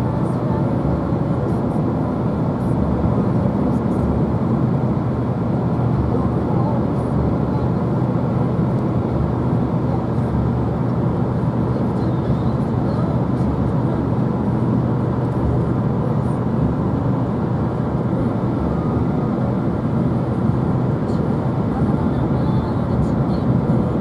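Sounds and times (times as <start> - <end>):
road rumble: 0.0 - 24.0
vehicle engine hum: 0.0 - 24.0.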